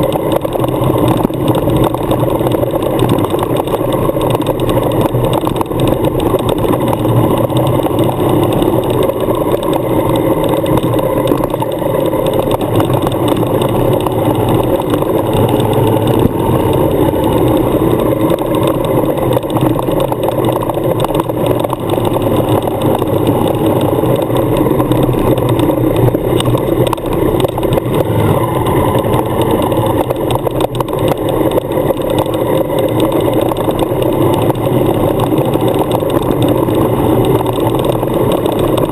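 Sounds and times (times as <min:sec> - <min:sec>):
motorcycle engine running steadily: 0:00.0 - 0:38.9
tyre and road noise on gravel: 0:00.0 - 0:38.9.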